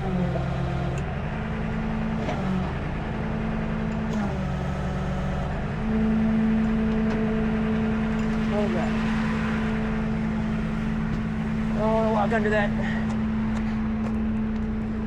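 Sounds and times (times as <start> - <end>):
tow truck engine running: 0.0 - 15.0.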